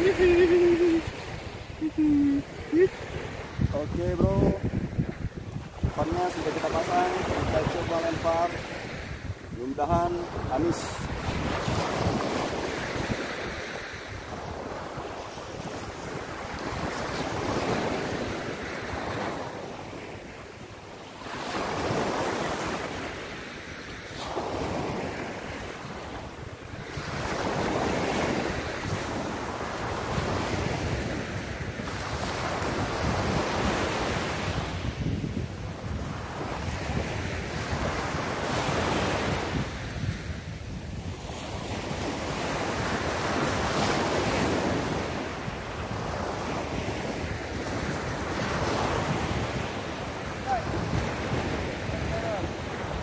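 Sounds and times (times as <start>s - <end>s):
wind buffeting microphone: 0.0s - 20.1s, 24.2s - 53.0s
surf waves breaking on beach: 0.0s - 53.0s.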